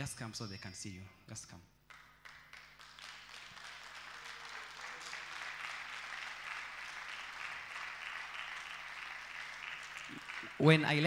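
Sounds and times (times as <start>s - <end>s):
crowd applauding: 1.9s - 11.0s.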